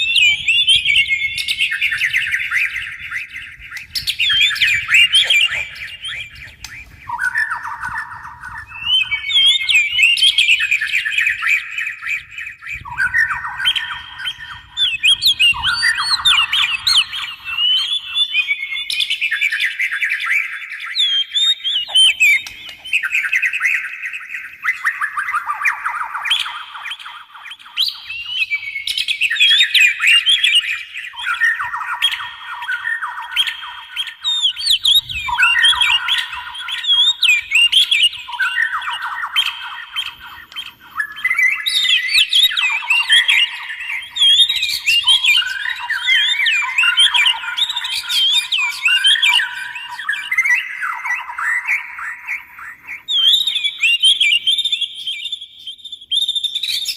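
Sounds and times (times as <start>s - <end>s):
songbirds whistling and chattering: 0.0s - 56.9s.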